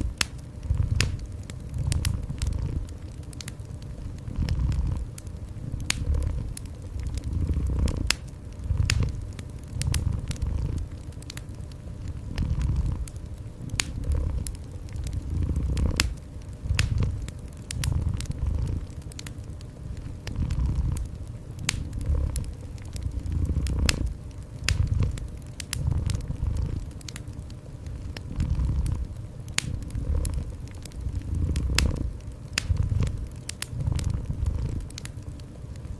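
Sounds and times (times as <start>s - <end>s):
cat purring: 0.0s - 35.2s
wood fire crackling and popping: 0.0s - 35.9s.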